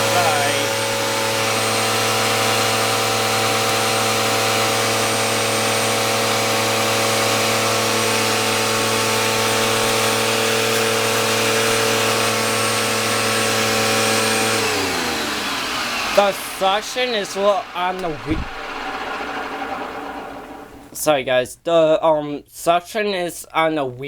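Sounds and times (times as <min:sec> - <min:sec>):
vacuum cleaner motor running: 0:00.0 - 0:21.0.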